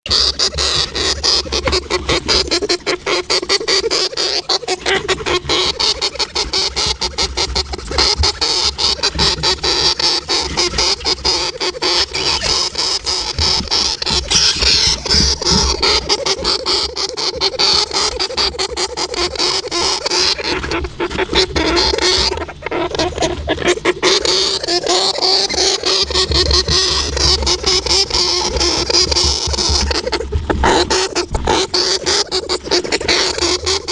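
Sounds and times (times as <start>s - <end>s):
hamster making rapid clicks: 0.0s - 33.9s.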